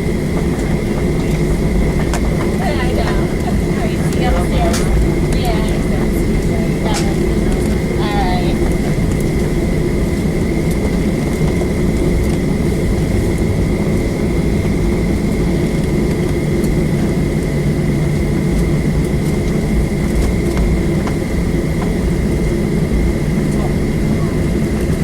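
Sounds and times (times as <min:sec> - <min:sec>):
jet engine rumble in cabin: 0:00.0 - 0:25.0.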